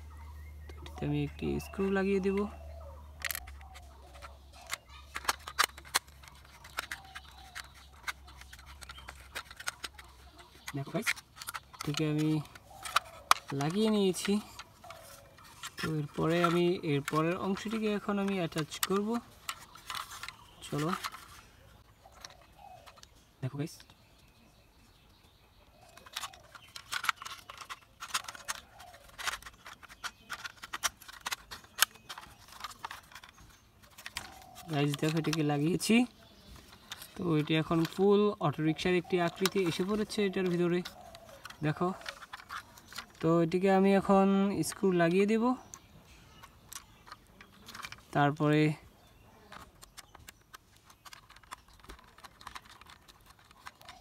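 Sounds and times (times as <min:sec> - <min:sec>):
plastic toy parts clicking: 0:03.1 - 0:24.0, 0:25.8 - 0:54.0.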